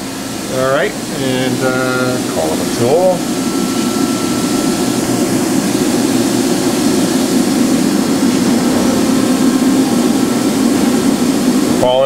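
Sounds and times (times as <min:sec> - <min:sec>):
faint steady whine: 0:00.0 - 0:12.0
machining center humming: 0:00.0 - 0:12.0.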